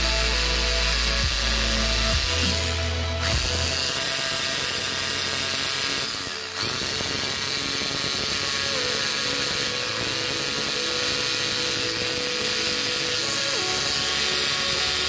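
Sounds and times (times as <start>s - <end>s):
rotary hammer drill running: 0.0s - 15.0s.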